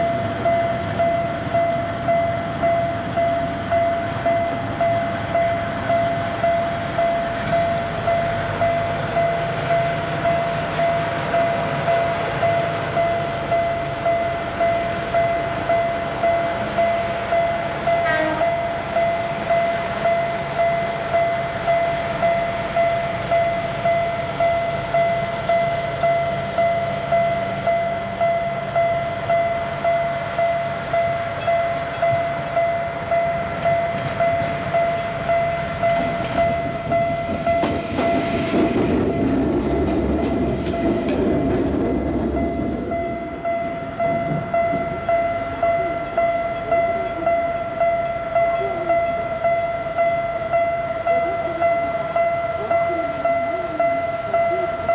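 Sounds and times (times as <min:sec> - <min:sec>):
railcar wheels rumbling on rails: 0:00.0 - 0:54.9.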